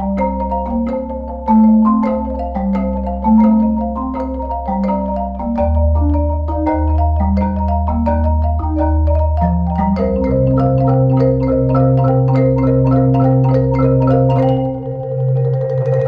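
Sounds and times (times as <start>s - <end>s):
marimba mallet run: 0.0s - 16.0s.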